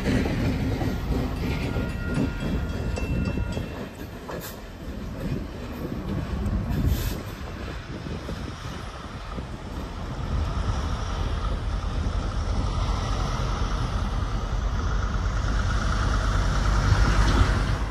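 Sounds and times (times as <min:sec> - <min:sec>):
locomotive engine rumble: 0:00.0 - 0:17.9.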